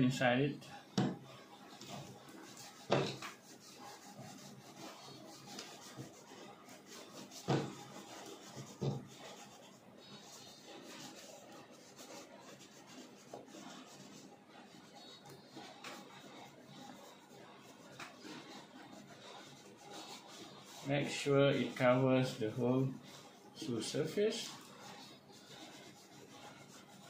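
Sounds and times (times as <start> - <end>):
cloth rubbing on leather boot: 1.4 - 27.0.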